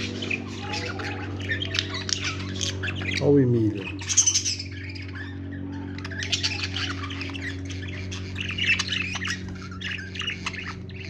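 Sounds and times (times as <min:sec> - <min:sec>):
budgerigars chattering: 0:00.0 - 0:11.0
steady low hum: 0:00.0 - 0:11.0.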